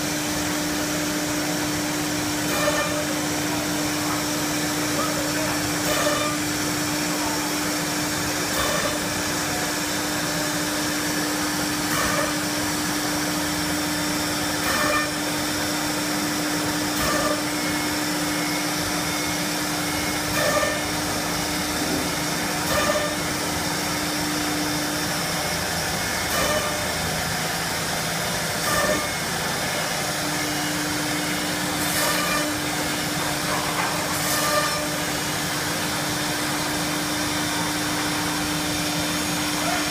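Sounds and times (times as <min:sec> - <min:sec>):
cnc router cutting wood: 0:00.0 - 0:39.9.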